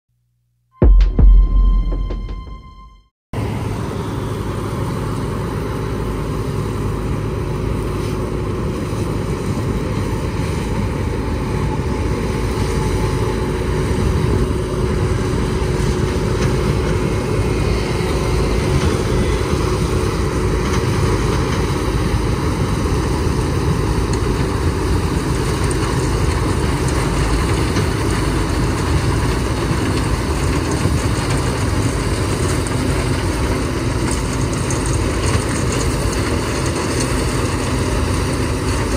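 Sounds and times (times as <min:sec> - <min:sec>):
combine harvester engine drone: 0:01.2 - 0:38.9.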